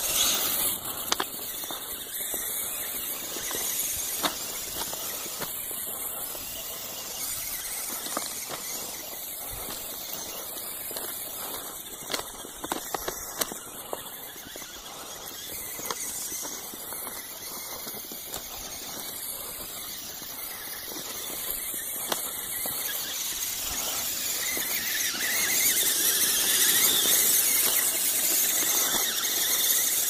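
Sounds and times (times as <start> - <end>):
toy truck motor whining: 0.0 - 30.0.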